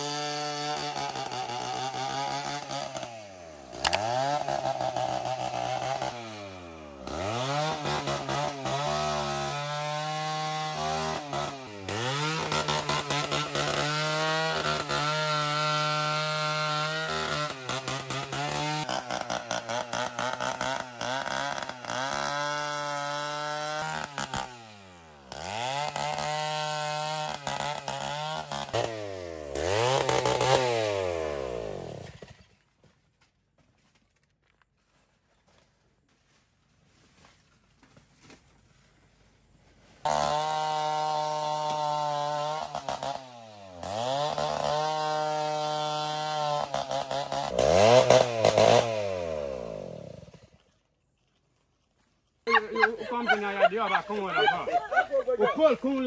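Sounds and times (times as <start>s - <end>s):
chainsaw cutting wood: 0.0s - 32.7s, 39.7s - 56.0s.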